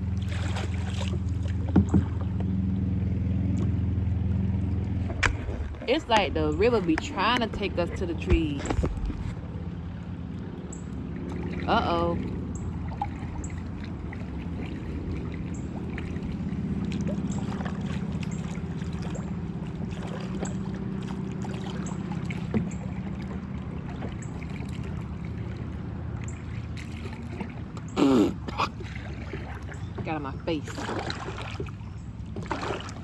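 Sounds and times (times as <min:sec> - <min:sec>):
water rumble: 0:00.0 - 0:33.0.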